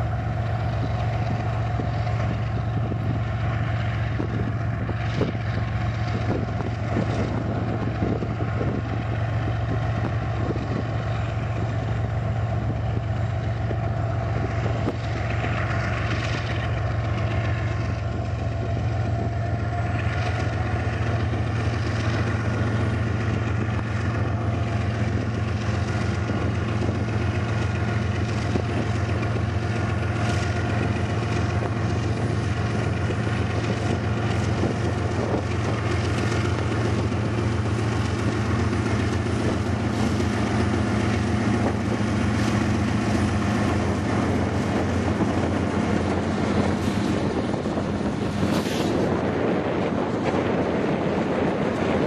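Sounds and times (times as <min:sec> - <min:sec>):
diesel locomotive engines droning: 0:00.0 - 0:52.0
train wheels rumbling and clicking: 0:00.0 - 0:52.0.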